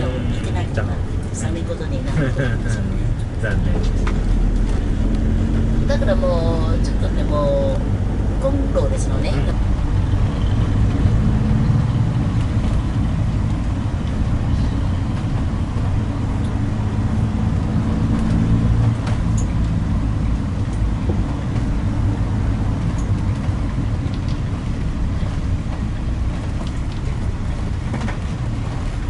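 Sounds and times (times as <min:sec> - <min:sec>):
car engine hum and road noise: 0:00.0 - 0:29.0.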